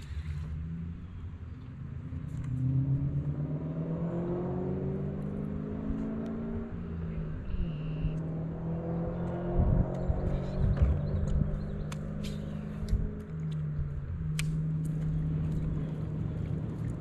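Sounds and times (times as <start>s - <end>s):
motor engine speeding up: 1.9s - 17.0s.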